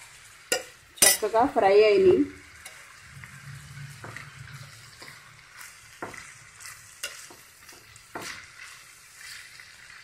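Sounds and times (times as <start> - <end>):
oil sizzling: 0.0 - 10.0
metal spoon scraping pan: 0.4 - 1.5, 2.5 - 10.0.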